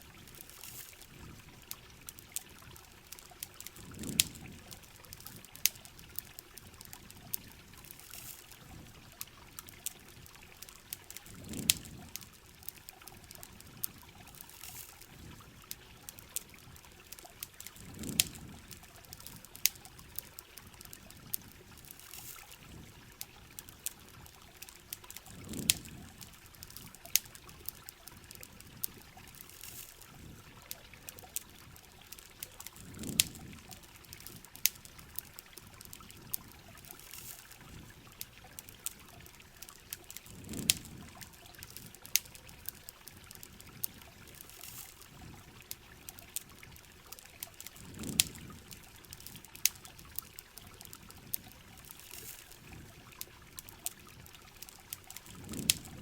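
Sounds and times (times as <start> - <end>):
campfire crackles: 0.0 - 56.0
flowing water: 0.0 - 56.0
steady rain: 0.0 - 56.0.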